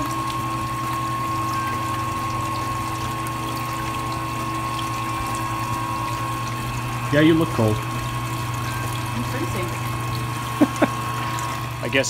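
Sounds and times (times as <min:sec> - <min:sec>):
electric pump humming and whining: 0:00.0 - 0:12.0
liquid trickling: 0:00.0 - 0:12.0.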